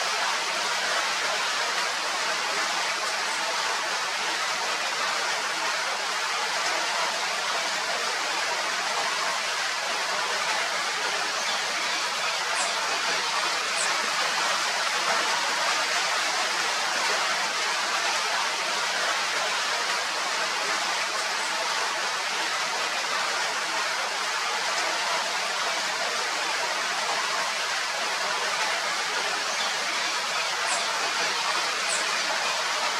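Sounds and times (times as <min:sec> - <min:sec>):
rain falling: 0:00.0 - 0:32.9.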